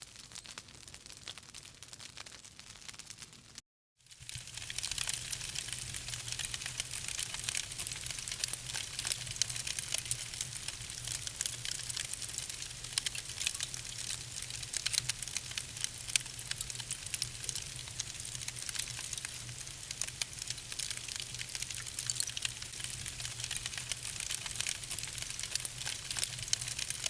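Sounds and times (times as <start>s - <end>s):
logs crackling and popping: 0.2s - 27.0s.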